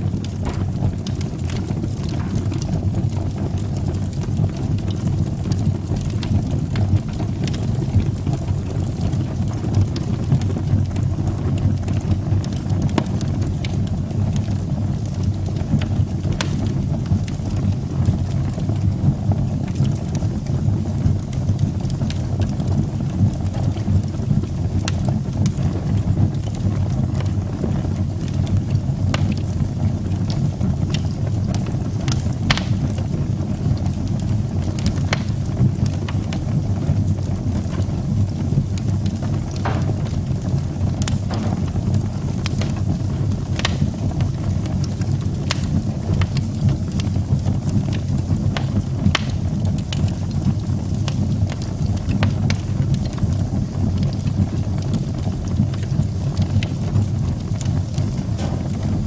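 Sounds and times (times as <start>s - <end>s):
fire crackles and pops: 0.0s - 59.0s
low rumble of flames: 0.0s - 59.0s.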